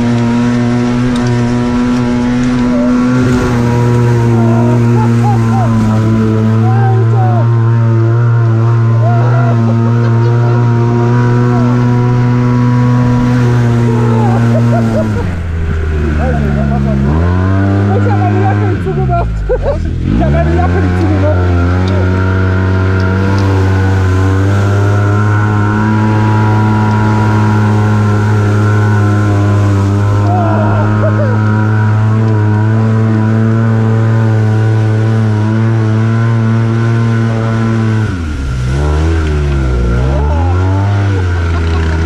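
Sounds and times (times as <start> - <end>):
off-road vehicle engine running hard: 0.0 - 42.0
water spraying against vehicle: 0.0 - 42.0.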